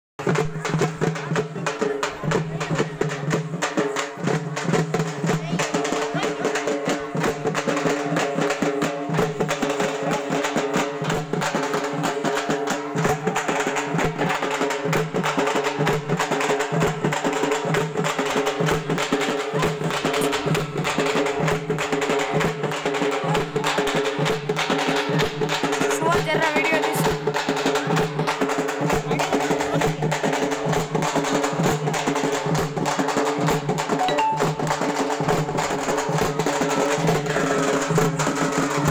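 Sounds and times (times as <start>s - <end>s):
frame drums beaten with sticks: 0.2s - 38.9s.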